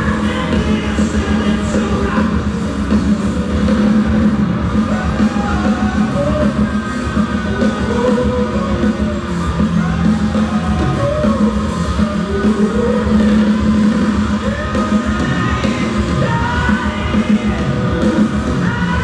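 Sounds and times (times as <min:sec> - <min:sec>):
male lead vocal singing: 0:00.0 - 0:02.6, 0:04.7 - 0:19.0
drums with cymbal crashes: 0:00.0 - 0:19.0
electric guitar: 0:00.0 - 0:19.0.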